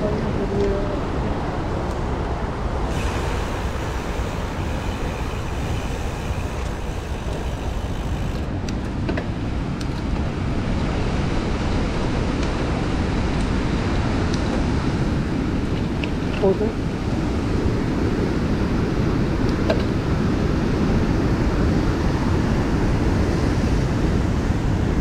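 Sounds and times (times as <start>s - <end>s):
road traffic: 0.0s - 25.0s
wind on microphone: 0.0s - 25.0s.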